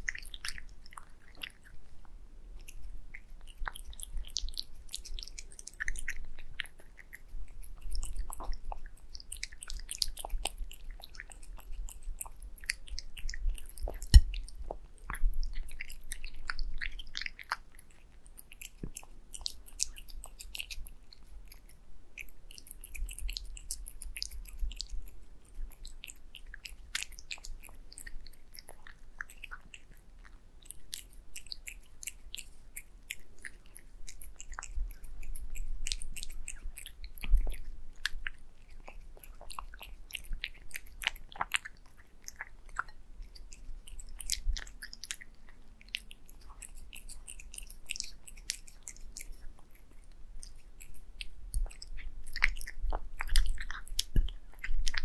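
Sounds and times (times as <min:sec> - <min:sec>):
cat chewing wet food: 0:00.0 - 0:55.0.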